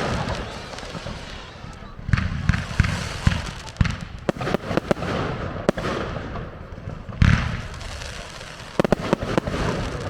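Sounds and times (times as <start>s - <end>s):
fireworks deep boom: 0.0s - 10.0s
fireworks sharp bangs: 0.0s - 10.0s.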